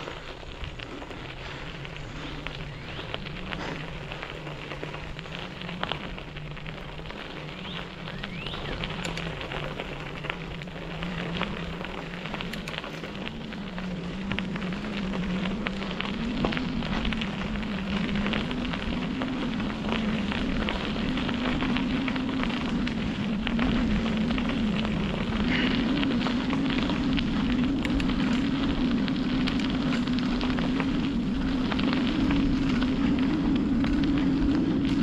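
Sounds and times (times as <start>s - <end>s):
bicycle tyres rolling on grit: 0.0s - 35.0s.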